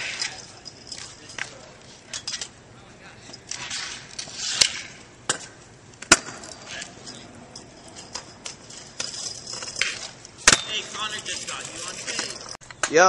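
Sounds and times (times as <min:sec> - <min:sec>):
scooter and skateboard clacking concrete: 0:00.0 - 0:13.0.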